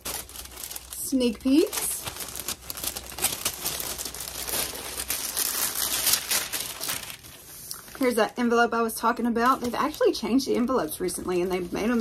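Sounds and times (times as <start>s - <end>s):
tissue paper crinkling: 0.0s - 8.3s, 9.3s - 12.0s.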